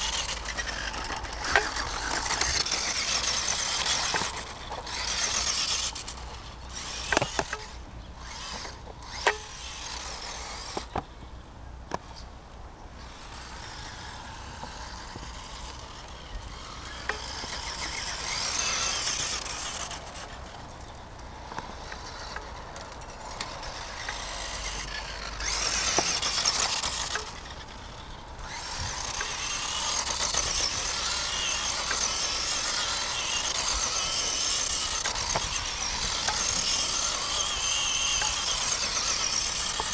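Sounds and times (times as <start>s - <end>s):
rc car motor and tyres on snow: 0.0s - 39.9s.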